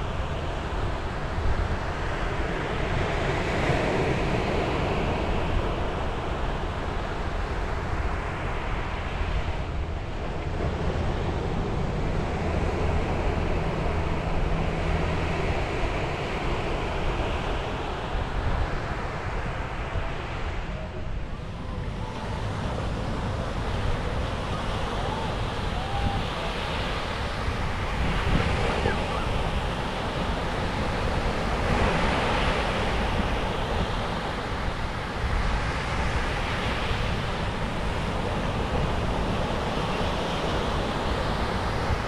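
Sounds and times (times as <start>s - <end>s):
sea waves breaking on a beach: 0.0s - 42.0s
wind rumbling on microphone: 0.0s - 42.0s.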